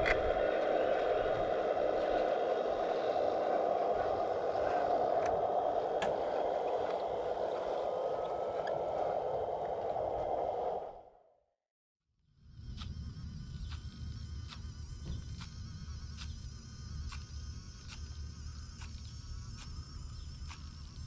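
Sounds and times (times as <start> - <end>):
model machinery mechanical hum: 0.0 - 11.1, 12.4 - 21.0.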